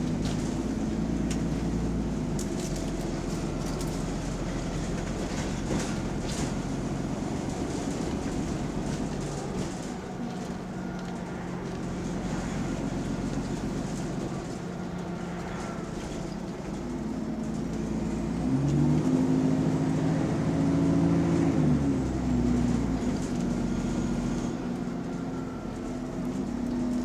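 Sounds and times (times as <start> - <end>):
bus engine with leaking exhaust: 0.0 - 27.0.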